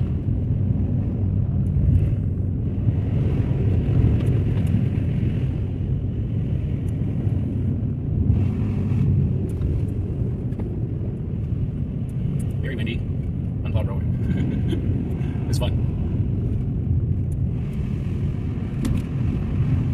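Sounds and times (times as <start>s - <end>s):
car engine and road rumble: 0.0s - 19.9s.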